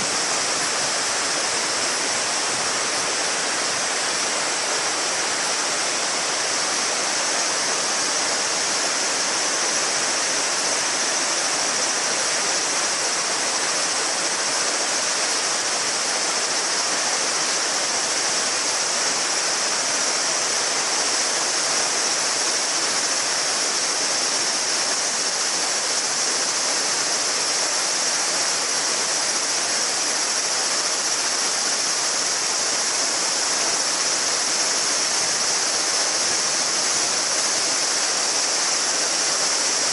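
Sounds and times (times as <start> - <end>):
cicadas droning: 0.0 - 39.9
river babbling over stones: 0.0 - 39.9.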